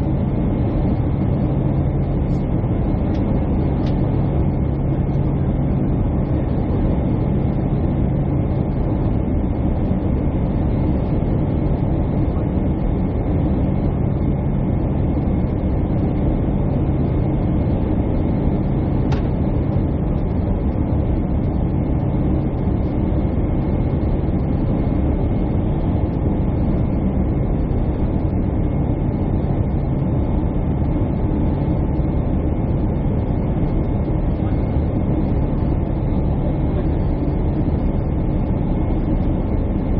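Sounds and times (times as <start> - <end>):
constant hums: 0.0 - 39.9
jet engines and airflow rumble: 0.0 - 39.9.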